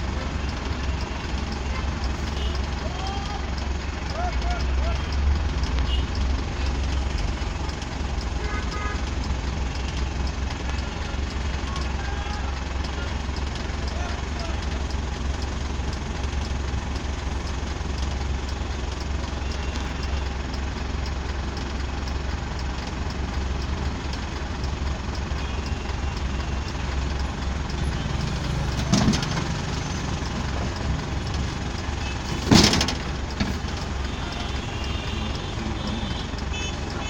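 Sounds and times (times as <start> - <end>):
truck engine idling: 0.0 - 37.0.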